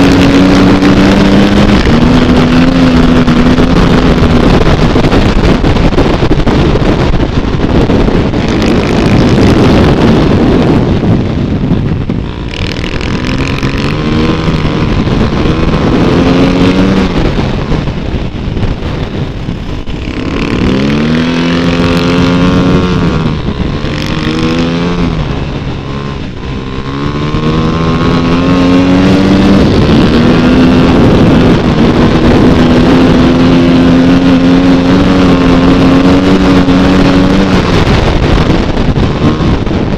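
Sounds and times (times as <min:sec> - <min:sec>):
dirt bike engine accelerating: 0:00.0 - 0:39.9.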